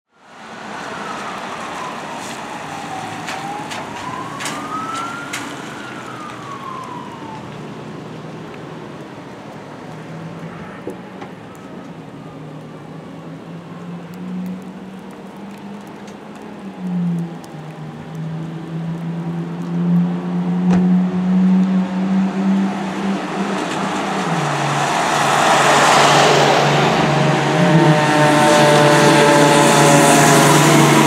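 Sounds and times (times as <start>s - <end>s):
fire engine siren wailing: 0.2s - 31.0s.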